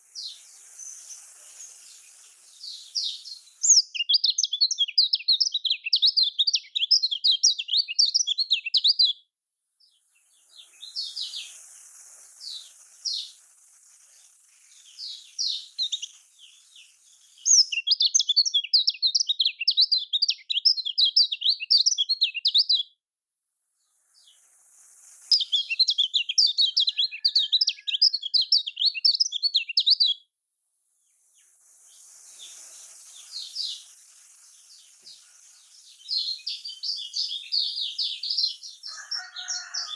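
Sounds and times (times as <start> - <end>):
bird chattering song: 0.0 - 9.2, 9.8 - 22.9, 24.2 - 30.2, 31.4 - 39.9.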